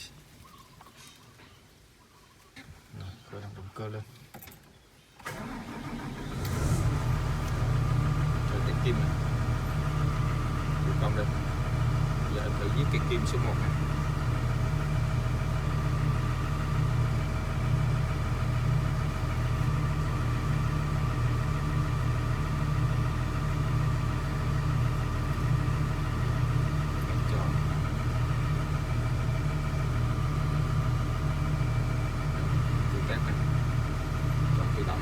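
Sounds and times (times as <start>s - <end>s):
diesel engine idling: 5.3s - 35.0s.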